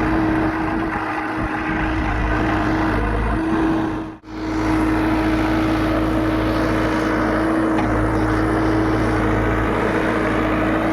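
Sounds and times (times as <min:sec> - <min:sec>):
excavator diesel engine droning: 0:00.0 - 0:10.9
steady whine: 0:00.0 - 0:10.9.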